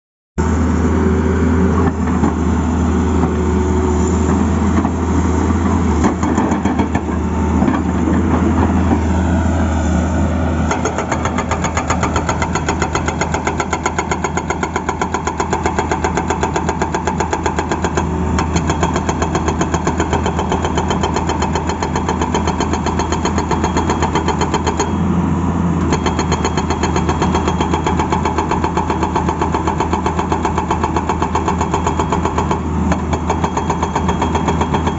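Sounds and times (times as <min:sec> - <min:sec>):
excavator diesel engine running: 0:00.4 - 0:34.9.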